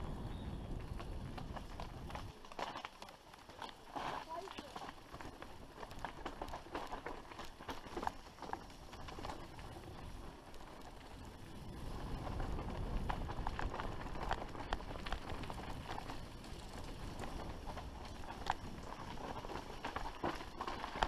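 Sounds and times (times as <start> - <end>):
bike tyres crunching over dirt: 0.0 - 21.0.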